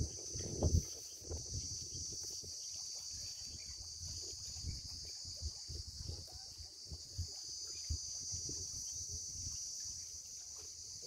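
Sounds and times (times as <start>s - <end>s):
wind buffeting microphone: 0.0s - 10.0s
insects chirring: 0.0s - 11.0s.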